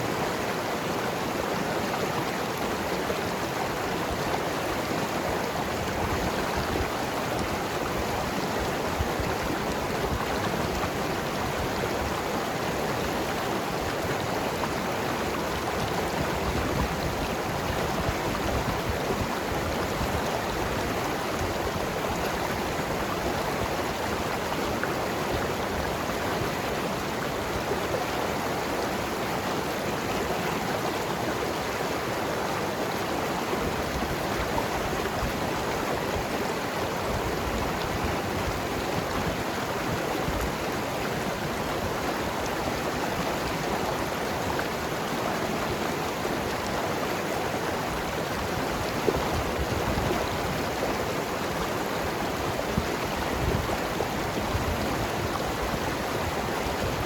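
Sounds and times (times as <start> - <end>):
river gurgling over rocks: 0.0 - 57.0.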